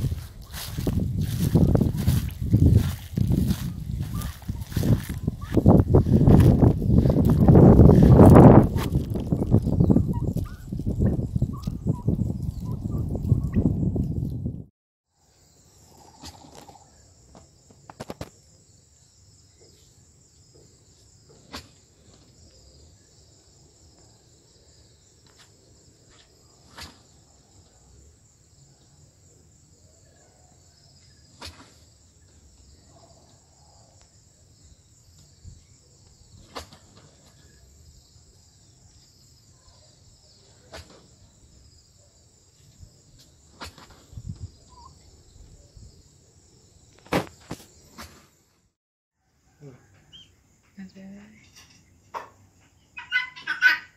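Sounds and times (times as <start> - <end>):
high-pitched insect chorus: 0.0 - 14.1, 15.2 - 48.6.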